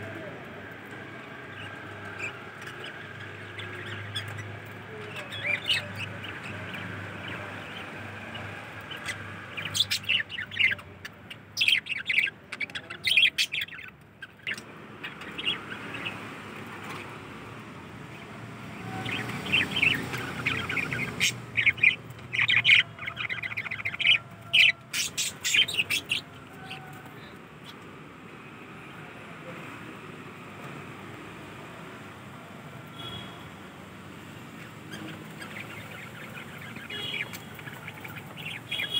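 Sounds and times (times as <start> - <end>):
small cage birds chirping: 0.0 - 38.9.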